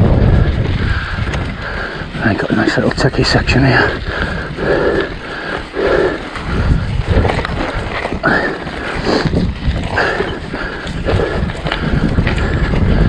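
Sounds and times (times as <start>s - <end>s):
bike knocking and rattling: 0.0s - 13.0s
bike tyres rolling over rock: 0.0s - 13.0s.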